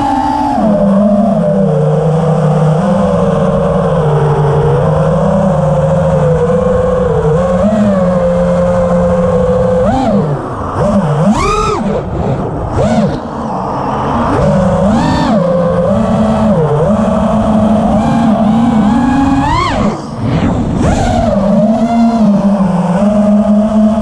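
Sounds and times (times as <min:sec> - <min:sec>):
electric motor whine: 0:00.0 - 0:24.0.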